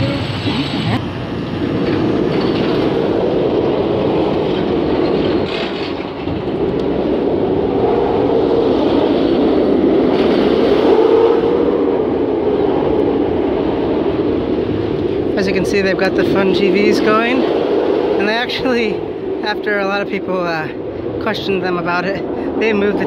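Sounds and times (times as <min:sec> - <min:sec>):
roller coaster rumbling on track: 0:00.0 - 0:23.0.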